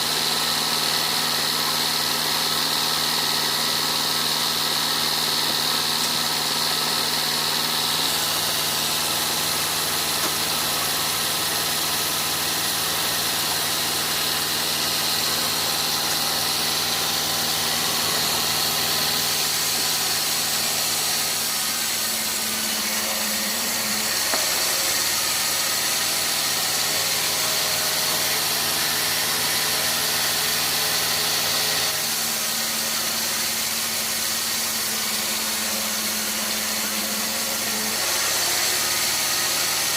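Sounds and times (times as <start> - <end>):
sawmill machinery hum and whine: 0.0 - 39.9.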